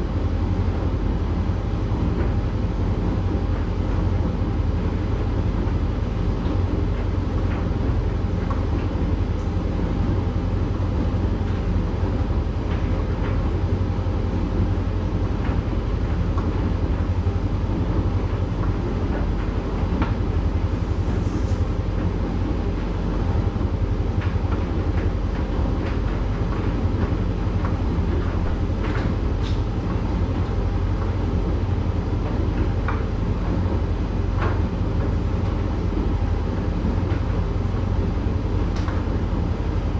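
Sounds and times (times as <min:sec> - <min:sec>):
tumble dryer humming: 0:00.0 - 0:39.9.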